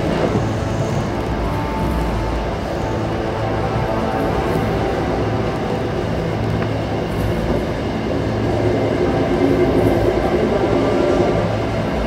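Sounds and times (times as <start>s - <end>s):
train running on tracks: 0.0s - 12.0s.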